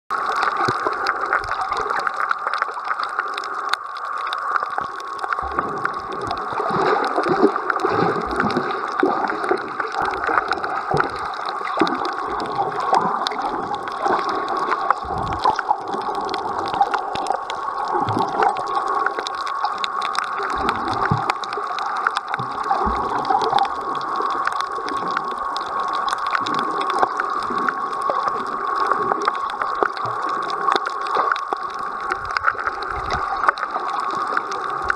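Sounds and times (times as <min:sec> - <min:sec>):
small clicks and crackles: 0:00.1 - 0:34.9
underwater rush and gurgle: 0:00.1 - 0:34.9.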